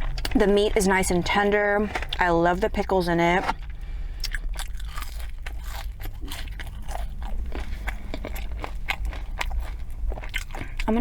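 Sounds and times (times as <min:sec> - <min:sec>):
chewing and smacking: 0:00.0 - 0:11.0
small crunchy crackles: 0:00.0 - 0:11.0.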